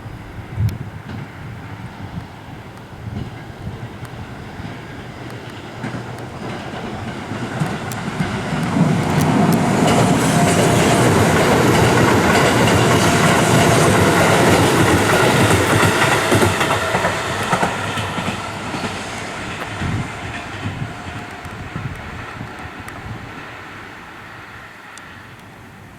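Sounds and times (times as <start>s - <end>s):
train passing: 0.0s - 25.9s.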